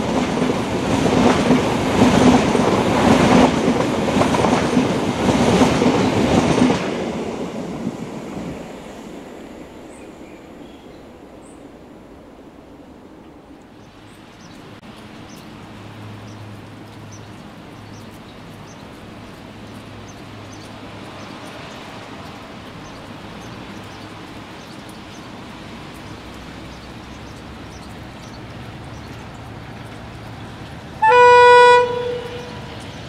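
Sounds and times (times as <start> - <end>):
diesel locomotive engine hum: 0.0 - 33.0
outdoor ambience hiss: 0.0 - 33.0.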